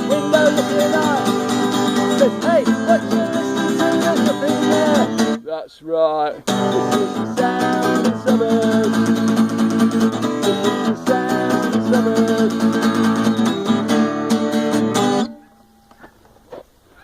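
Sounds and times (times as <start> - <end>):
acoustic guitar strumming chords: 0.0 - 16.1.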